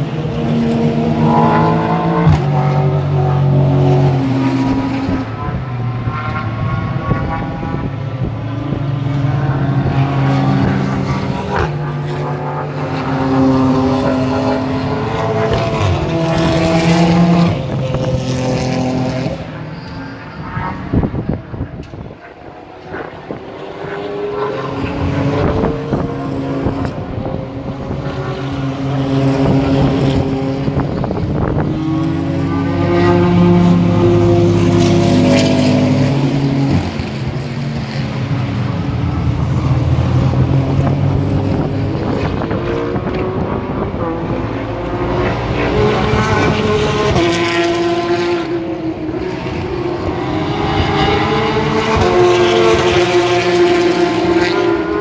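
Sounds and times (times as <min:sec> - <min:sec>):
race car engines passing: 0:00.0 - 0:55.0.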